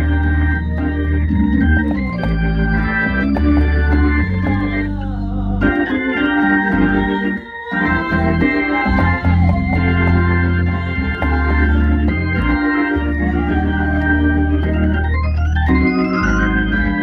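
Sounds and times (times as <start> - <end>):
organ playing a hymn: 0.0 - 17.0.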